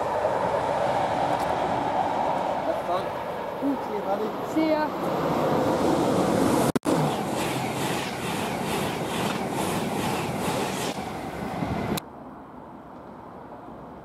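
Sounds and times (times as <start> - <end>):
train passing at speed: 0.0 - 14.0.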